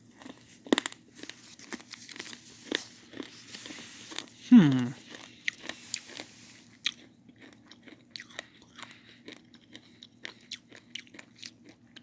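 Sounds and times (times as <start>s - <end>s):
candy crunching in mouth: 0.0s - 12.0s.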